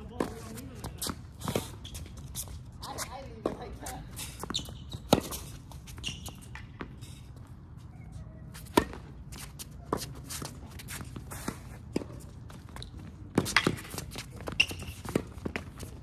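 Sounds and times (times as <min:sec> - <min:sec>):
footsteps on court: 0:00.0 - 0:16.0.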